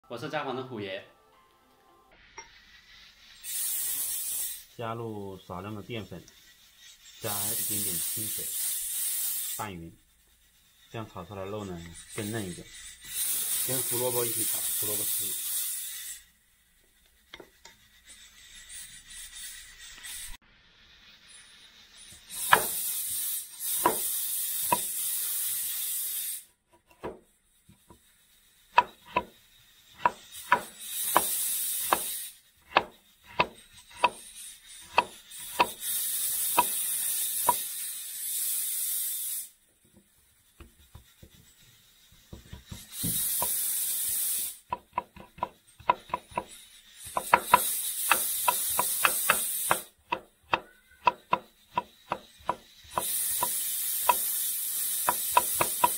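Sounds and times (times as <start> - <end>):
loud hissing sizzle: 2.1 - 55.9
spatula scraping wok: 2.2 - 55.9.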